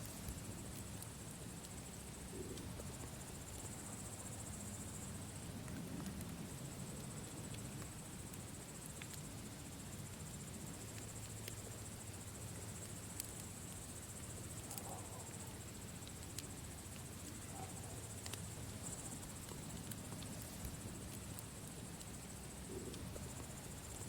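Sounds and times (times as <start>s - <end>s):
campfire crackling pops: 0.0s - 3.8s, 5.0s - 24.0s
cricket trill: 0.0s - 24.0s.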